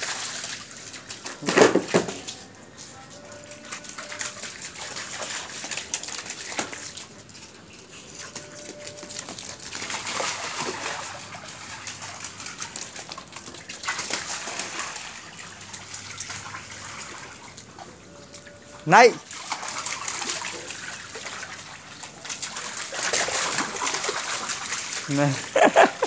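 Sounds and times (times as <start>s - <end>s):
water splashing on stone floor: 0.0s - 18.6s, 19.2s - 26.0s.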